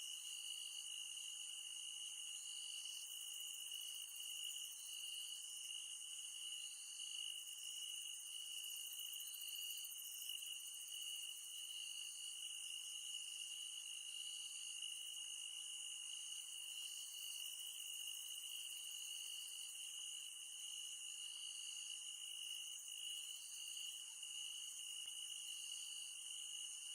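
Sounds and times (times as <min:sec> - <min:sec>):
faint pulsing insect call: 0:00.0 - 0:26.9.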